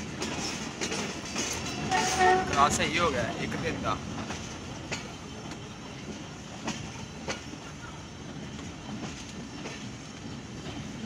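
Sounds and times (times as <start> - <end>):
train rumbling on track: 0.0 - 11.0
wheels clacking over rail joints: 0.0 - 11.0.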